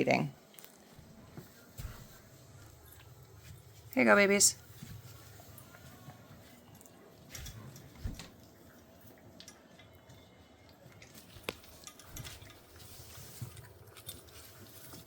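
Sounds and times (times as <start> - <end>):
puppies eating from bowls: 0.4 - 15.0.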